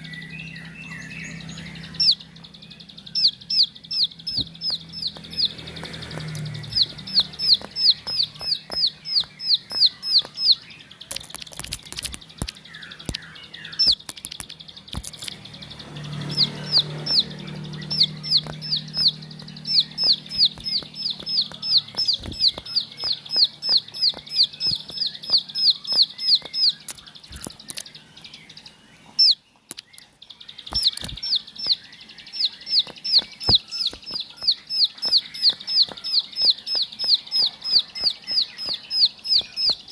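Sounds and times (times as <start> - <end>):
bird singing sharp notes: 0.0 - 39.9
sharp clicks: 3.9 - 28.0, 29.2 - 39.9.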